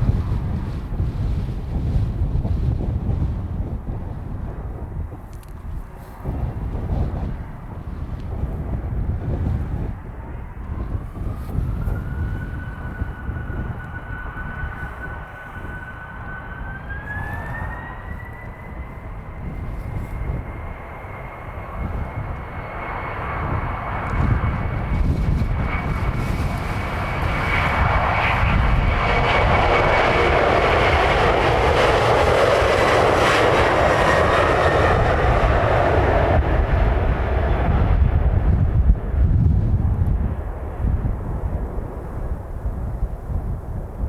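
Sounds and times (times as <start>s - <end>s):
jet engines spooling up: 4.4s - 44.0s.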